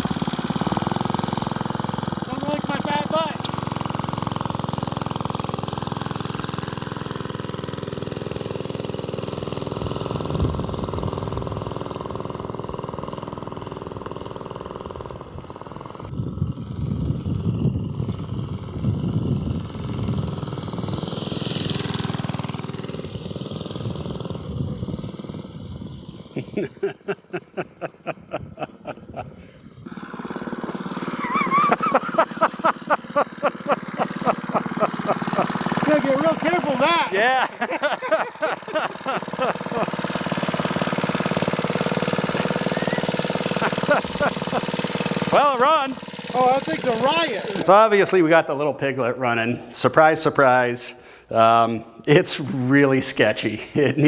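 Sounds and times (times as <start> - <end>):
minibike engine revving: 0.0 - 48.2.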